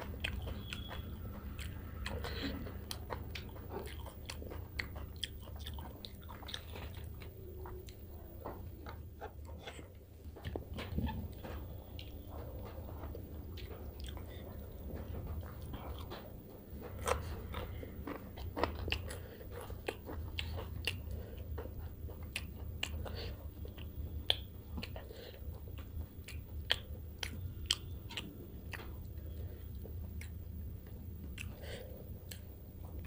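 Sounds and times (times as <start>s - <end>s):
person chewing: 0.0s - 33.0s
steady low hum: 0.0s - 33.0s.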